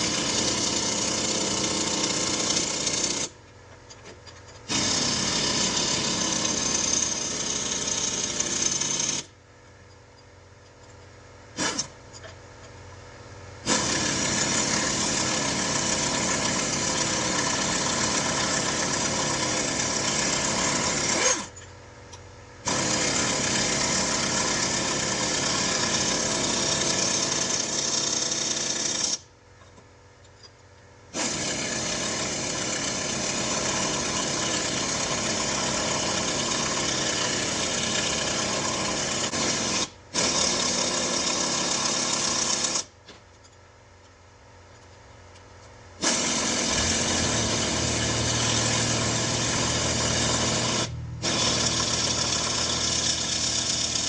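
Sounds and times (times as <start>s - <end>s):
pneumatic air tool hammering: 0.0s - 3.4s, 4.0s - 9.3s, 11.5s - 12.4s, 13.6s - 21.7s, 22.6s - 29.3s, 31.1s - 43.0s, 46.0s - 54.0s.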